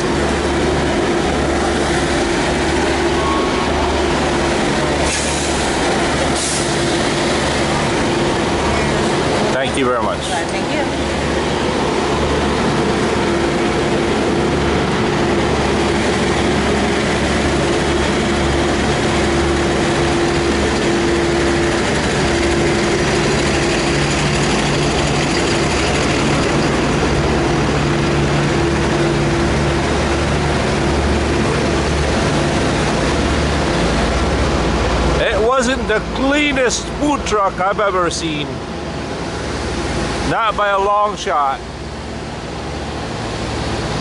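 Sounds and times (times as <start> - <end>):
heavy engine running: 0.0 - 44.0.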